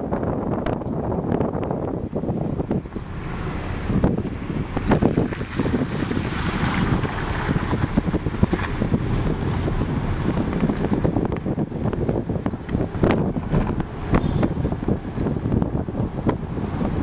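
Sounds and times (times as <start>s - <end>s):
car driving rumble: 0.0s - 17.0s
wind buffeting microphone: 0.0s - 17.0s.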